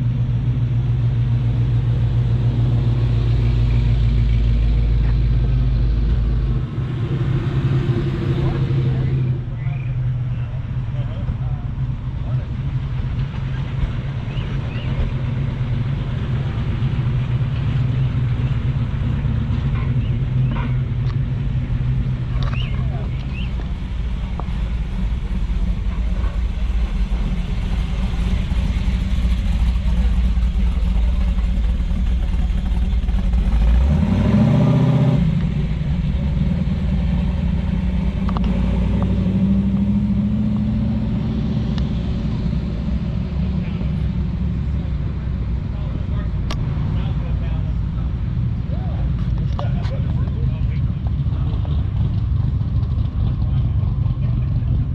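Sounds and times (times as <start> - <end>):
car engine idling: 0.0 - 7.4, 8.0 - 54.9.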